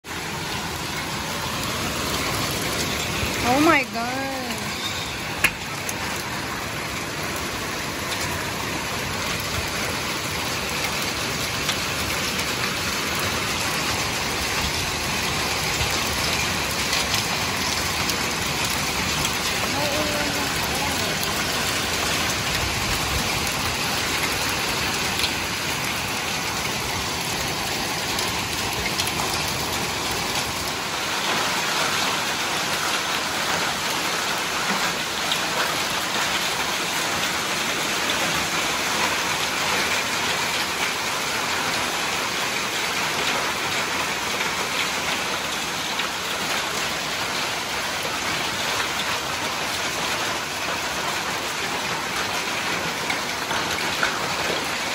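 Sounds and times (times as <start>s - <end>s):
hail and heavy rain on paving: 0.0s - 54.9s.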